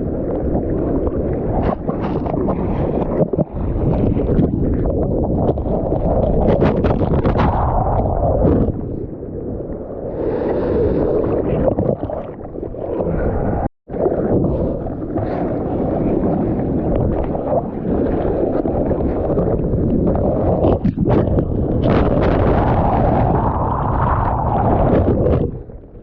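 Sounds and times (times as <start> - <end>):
seawater sloshing and gurgling: 0.0 - 26.0
wind buffeting microphone: 0.0 - 26.0.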